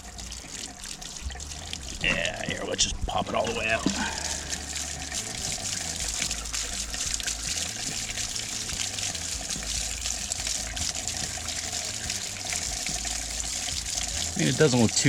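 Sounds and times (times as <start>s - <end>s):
water gushing and splashing: 0.0s - 15.0s.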